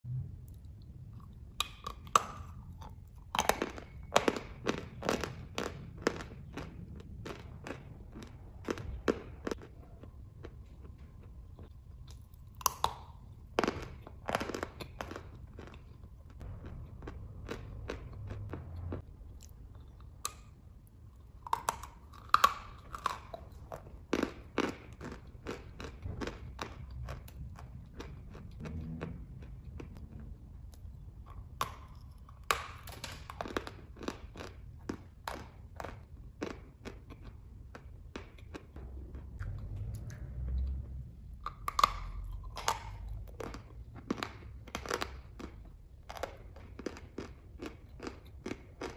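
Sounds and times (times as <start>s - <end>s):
chewing: 0.5s - 48.9s.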